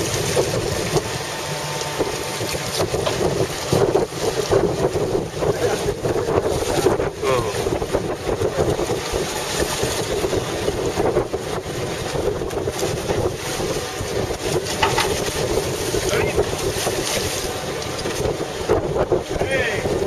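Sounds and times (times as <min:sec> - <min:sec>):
outboard motor running: 0:00.0 - 0:20.0
water washing against hull: 0:00.0 - 0:20.0
wind buffeting microphone: 0:00.0 - 0:20.0.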